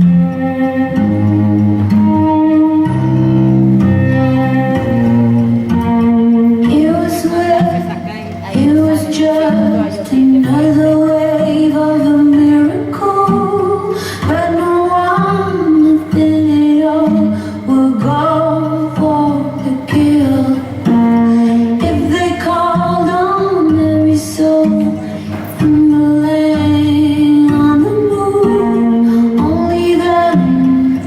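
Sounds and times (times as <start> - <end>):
woman singing long notes: 5.8 - 31.0.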